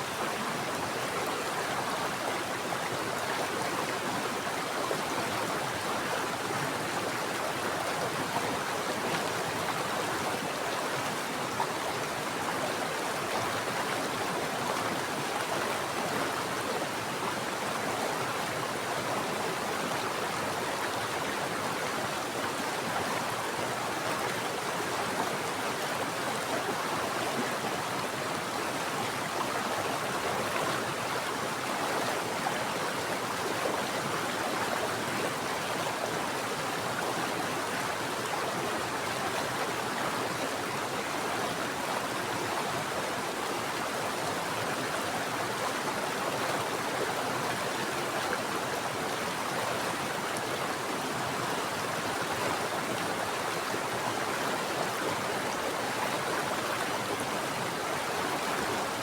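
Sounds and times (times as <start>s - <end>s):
stream flowing over rocks: 0.1s - 59.0s.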